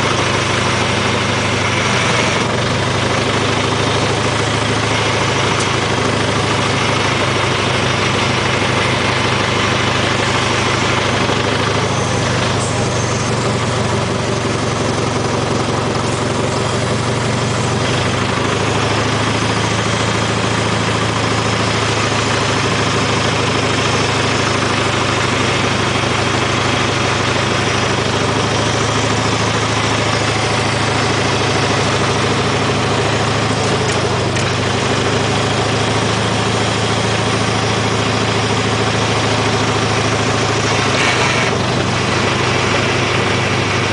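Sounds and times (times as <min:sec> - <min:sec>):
tractor engine idling: 0:00.0 - 0:43.9.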